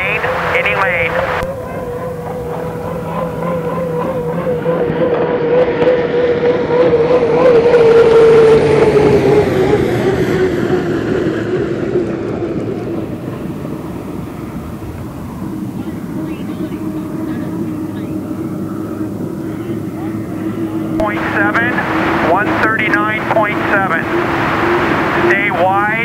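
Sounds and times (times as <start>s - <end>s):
hydroplane turbine whine: 0.0s - 26.0s.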